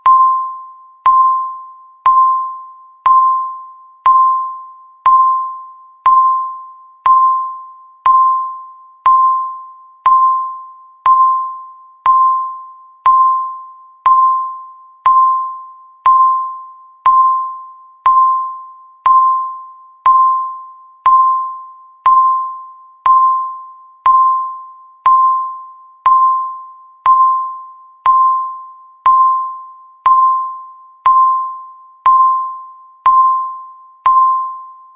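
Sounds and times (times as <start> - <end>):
countdown timer beeps: 0.0 - 34.9.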